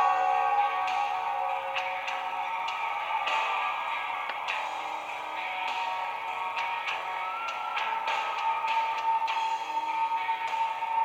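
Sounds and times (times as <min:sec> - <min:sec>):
music with held tone: 0:00.0 - 0:11.0.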